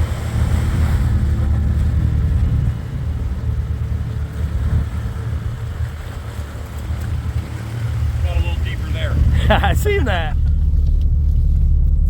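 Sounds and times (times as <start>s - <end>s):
water splashing: 0.0s - 11.7s
car engine pulling hard: 0.0s - 12.0s.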